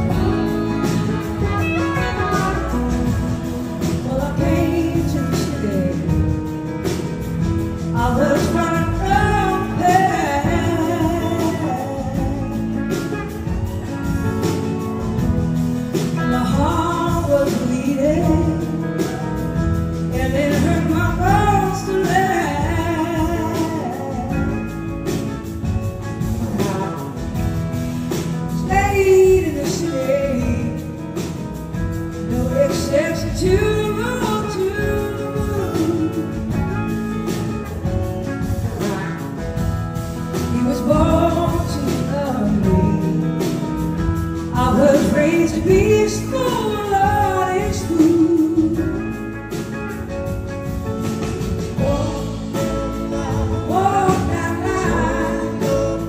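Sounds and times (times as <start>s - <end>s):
woman singing lead vocal: 0.0s - 50.1s, 51.6s - 56.0s
blues-rock band playing: 0.0s - 56.0s.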